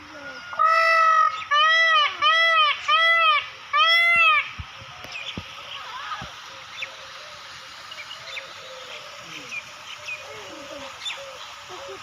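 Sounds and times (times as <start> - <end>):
background hiss: 0.0 - 12.0
birds chirping: 0.0 - 12.0.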